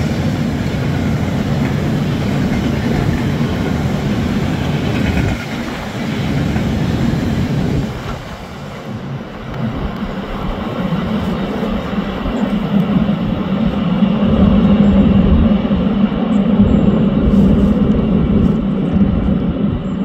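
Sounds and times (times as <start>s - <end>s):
freight wagons rumbling on rails: 0.0s - 20.0s.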